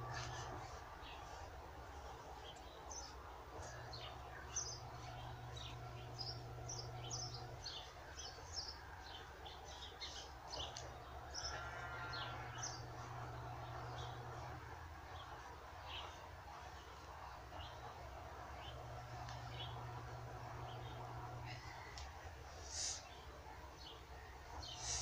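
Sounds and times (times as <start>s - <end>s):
low hum: 0.0s - 22.5s
small birds chirping: 0.0s - 25.0s.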